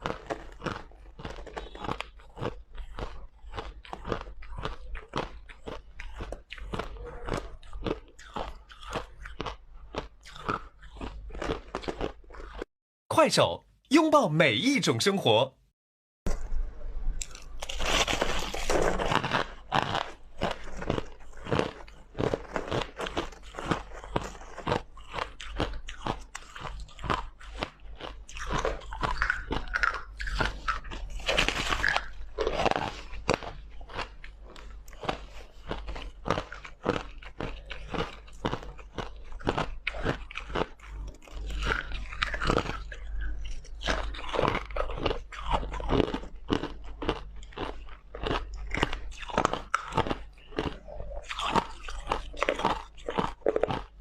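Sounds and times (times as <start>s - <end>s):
crushed ice being chewed: 0.0s - 12.7s, 17.2s - 54.0s.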